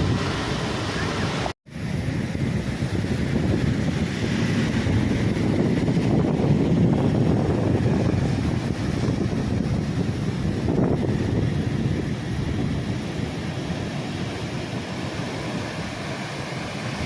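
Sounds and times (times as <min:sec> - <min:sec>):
ocean waves breaking on shore: 0:00.0 - 0:17.0
wind buffeting microphone: 0:00.0 - 0:17.0.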